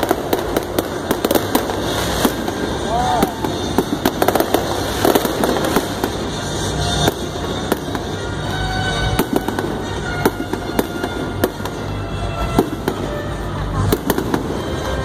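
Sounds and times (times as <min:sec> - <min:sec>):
continuous rumble: 0:00.0 - 0:15.0
fireworks bangs and crackles: 0:00.0 - 0:15.0.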